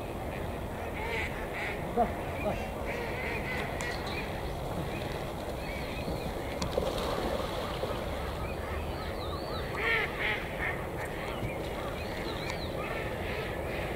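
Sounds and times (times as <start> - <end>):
waterbirds honking: 0.0 - 13.9.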